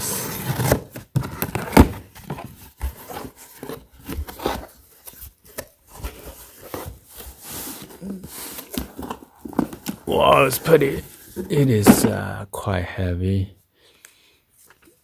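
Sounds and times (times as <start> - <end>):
cardboard box being opened: 0.0 - 12.2.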